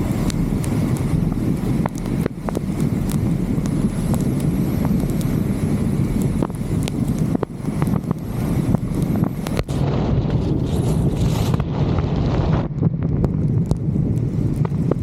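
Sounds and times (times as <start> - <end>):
steady low rumble: 0.0 - 15.0
wind buffeting microphone: 0.0 - 15.0.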